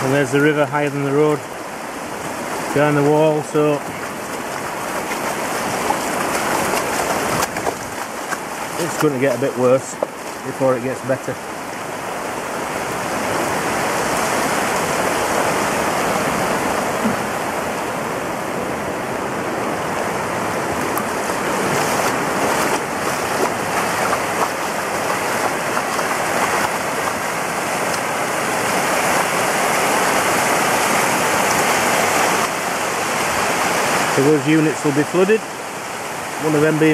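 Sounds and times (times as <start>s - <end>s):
floodwater rushing: 0.0s - 36.9s.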